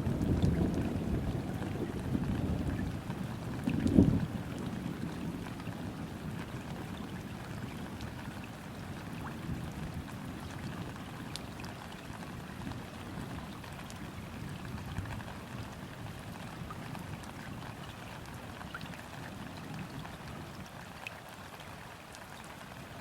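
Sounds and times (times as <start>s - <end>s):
rain falling on river water: 0.0s - 23.0s.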